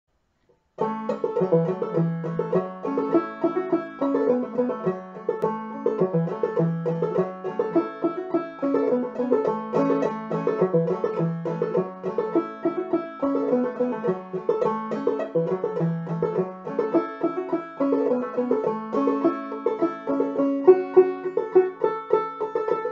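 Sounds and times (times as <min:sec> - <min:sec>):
clawhammer banjo playing: 0:00.8 - 0:22.9.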